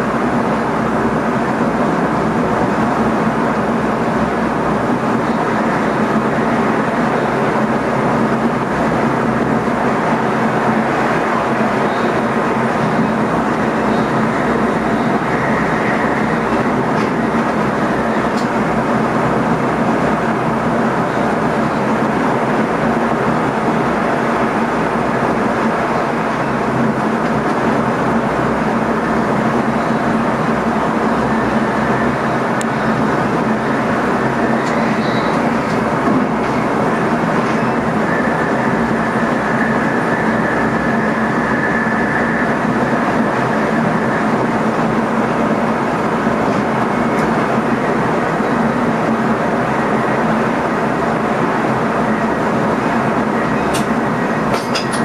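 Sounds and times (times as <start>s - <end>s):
constant hum: 0.0s - 55.0s
electric train running at speed: 0.0s - 55.0s.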